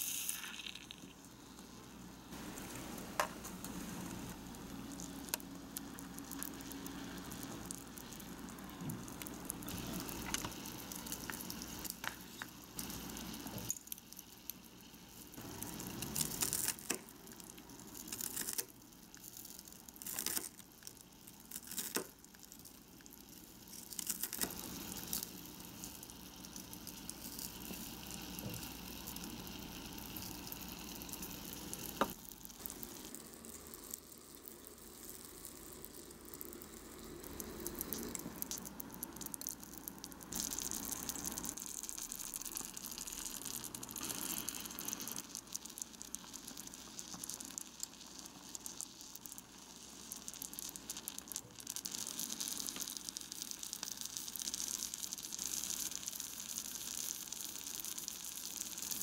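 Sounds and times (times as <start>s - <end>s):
pan simmering with faint sizzle: 0.0s - 59.0s.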